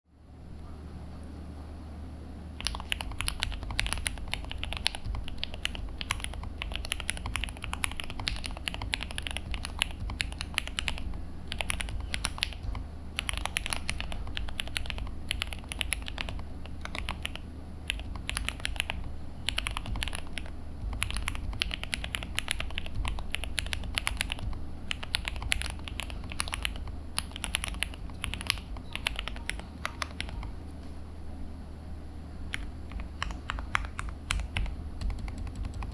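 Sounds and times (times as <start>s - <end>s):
steady low hum: 0.1s - 35.9s
mechanical keyboard clicks: 2.6s - 30.5s, 32.5s - 35.9s.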